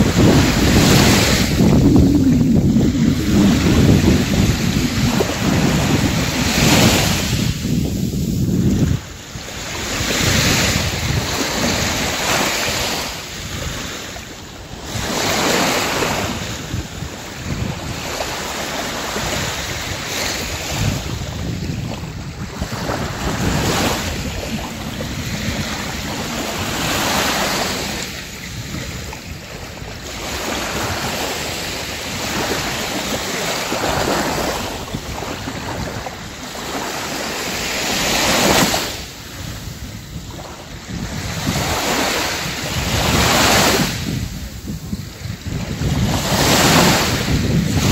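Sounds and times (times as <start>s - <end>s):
waves washing up a beach: 0.0s - 47.9s.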